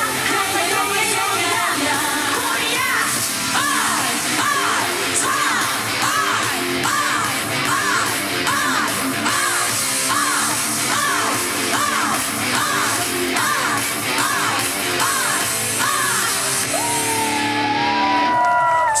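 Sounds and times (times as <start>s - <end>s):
loud music: 0.0s - 19.0s
woman singing into a microphone: 0.1s - 16.5s.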